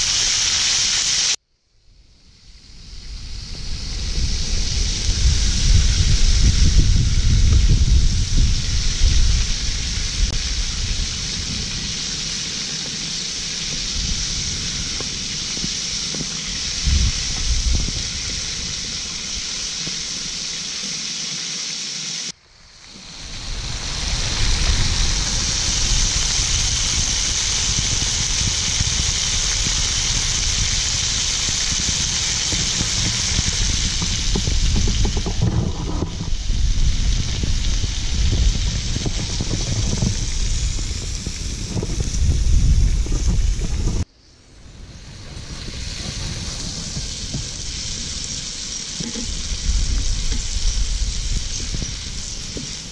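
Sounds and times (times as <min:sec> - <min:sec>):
food sizzling in oil: 0:00.0 - 0:01.4, 0:02.8 - 0:22.4, 0:23.0 - 0:44.1, 0:45.0 - 0:52.9
wind rumble on microphone: 0:01.9 - 0:20.4, 0:22.8 - 0:52.9.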